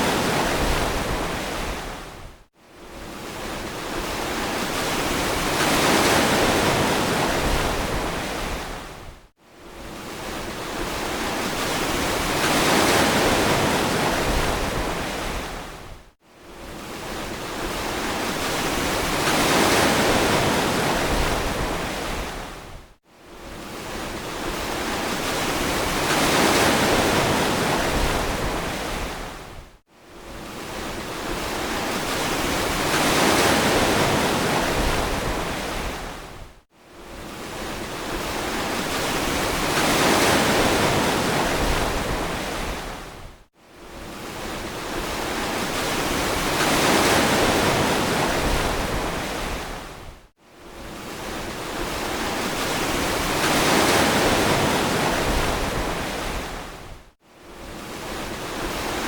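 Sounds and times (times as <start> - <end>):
ocean waves washing onto beach: 0.0 - 9.1, 9.7 - 22.8, 23.4 - 59.0.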